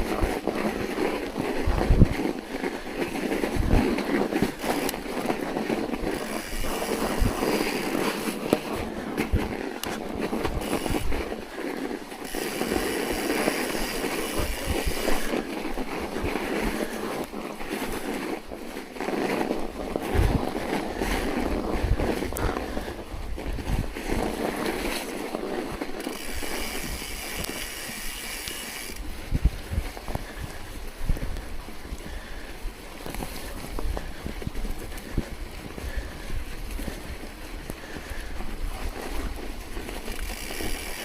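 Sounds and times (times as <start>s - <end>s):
wind buffeting microphone: 0.0s - 18.8s, 19.6s - 41.0s.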